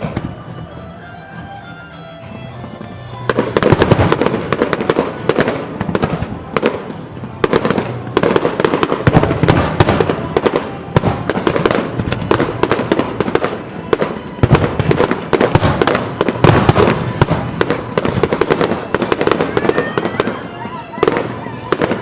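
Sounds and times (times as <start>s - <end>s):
background music: 0.0s - 22.0s
fireworks cracking and crackling: 0.0s - 22.0s.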